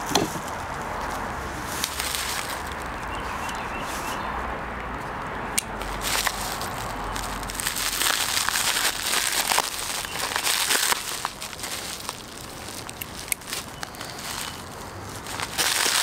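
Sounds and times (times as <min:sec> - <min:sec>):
bubble wrap crinkling: 0:00.0 - 0:04.2, 0:05.7 - 0:16.0.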